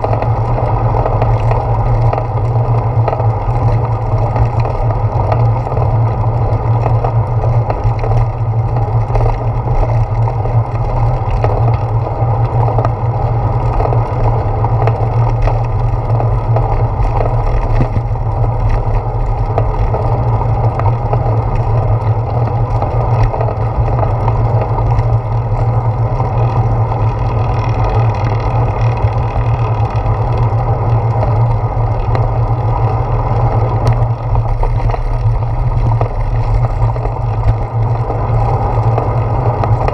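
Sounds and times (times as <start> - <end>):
bicycle rolling on pavement: 0.0 - 39.9.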